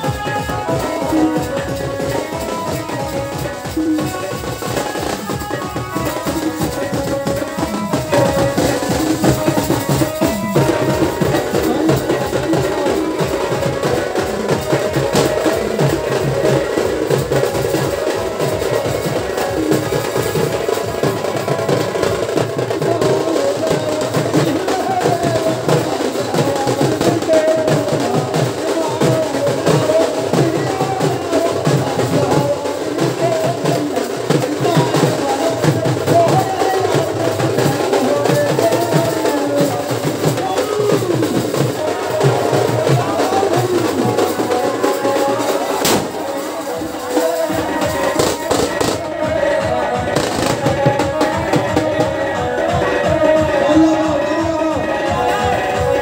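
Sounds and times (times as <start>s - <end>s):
barrel drums beaten with sticks: 0.0s - 56.0s
crowd voices: 0.0s - 56.0s.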